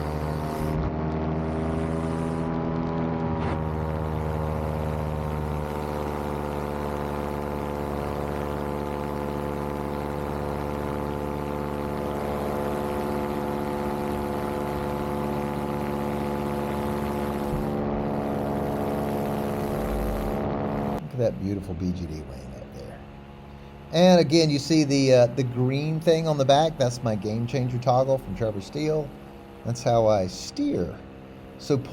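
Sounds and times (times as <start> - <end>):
paramotor engine buzzing drone: 0.0 - 31.9.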